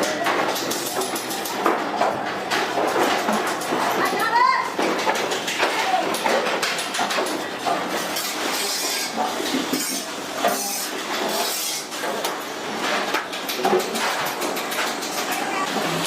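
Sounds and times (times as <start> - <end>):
noisy workshop background: 0.0 - 16.0.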